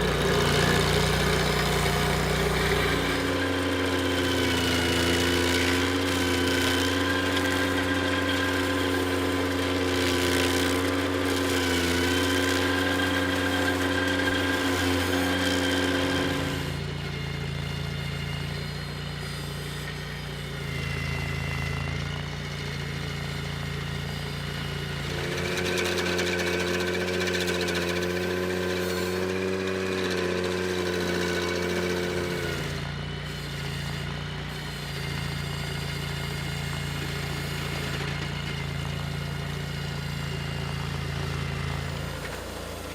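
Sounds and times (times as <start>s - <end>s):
stump grinder engine running: 0.0s - 42.9s.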